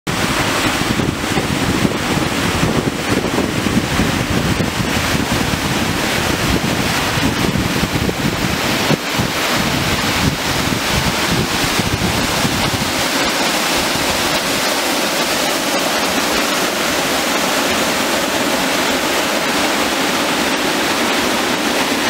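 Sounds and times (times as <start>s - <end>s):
stream running over stones: 0.1s - 22.0s
wind on microphone: 0.1s - 22.0s.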